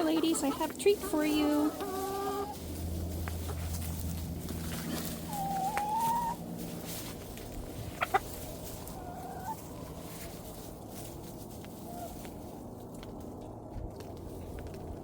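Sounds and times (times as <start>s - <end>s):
hens clucking: 0.0s - 13.1s.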